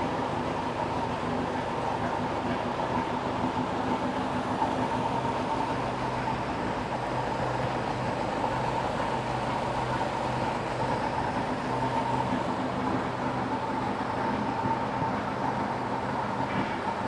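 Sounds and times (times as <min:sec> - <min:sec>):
boat engine running steadily: 0:00.0 - 0:17.0.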